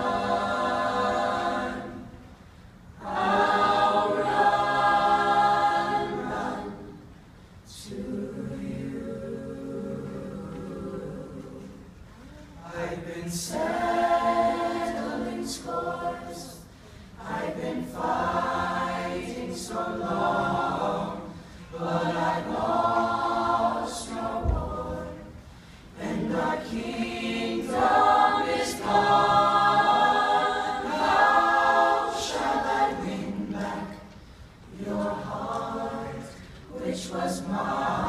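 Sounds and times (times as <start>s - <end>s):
a cappella group singing harmony: 0.0s - 38.0s.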